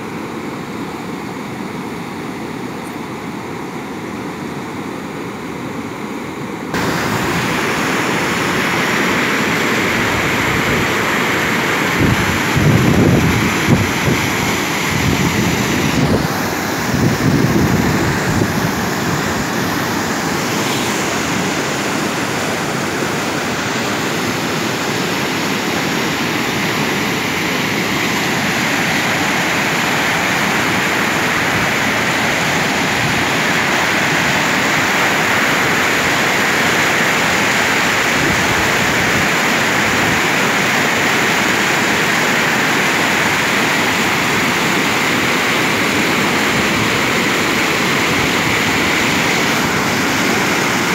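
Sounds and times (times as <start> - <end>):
floodwater rushing over rapids: 0.0 - 50.9.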